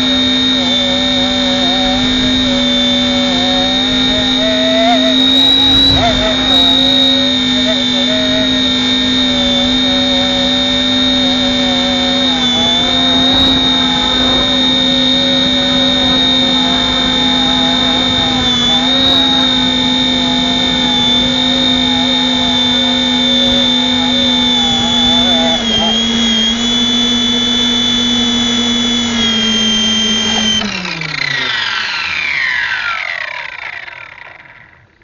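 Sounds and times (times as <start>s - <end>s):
low wind rumble: 0.0s - 32.0s
rc helicopter whining: 0.0s - 35.0s.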